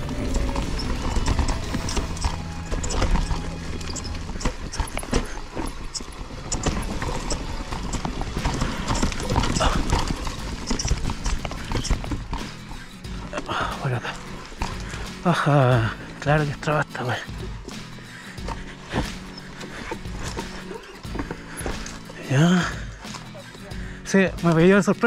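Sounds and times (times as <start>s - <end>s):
mountain bike rattling over rocks: 0.0s - 23.7s.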